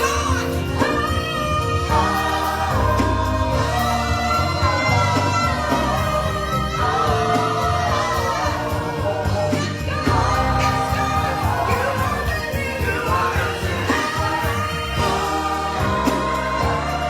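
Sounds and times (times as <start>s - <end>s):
gospel choir singing: 0.0s - 17.0s
instrumental accompaniment with bass: 0.0s - 17.0s.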